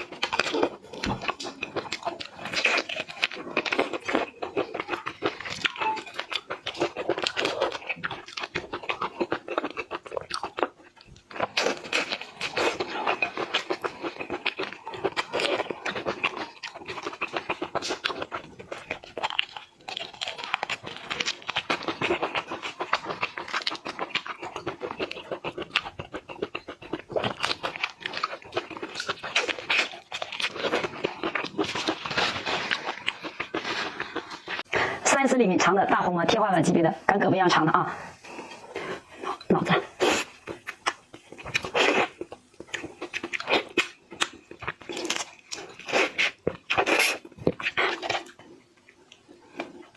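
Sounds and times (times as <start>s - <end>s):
crunching and chewing shellfish: 0.0s - 35.0s, 38.2s - 49.9s.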